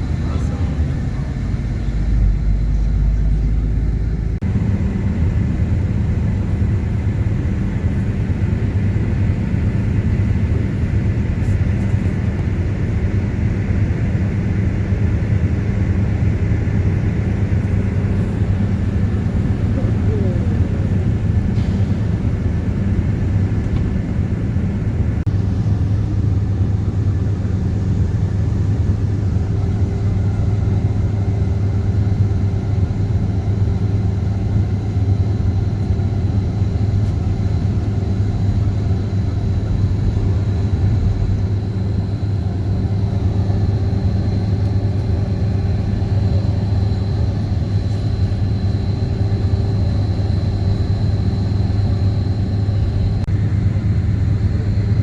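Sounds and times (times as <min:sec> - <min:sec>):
low rumble of moving vehicle: 0:00.0 - 0:55.0.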